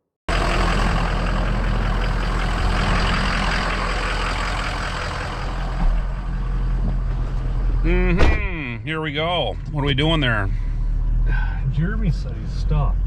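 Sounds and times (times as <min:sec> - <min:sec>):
truck engine hum: 0:00.3 - 0:13.0.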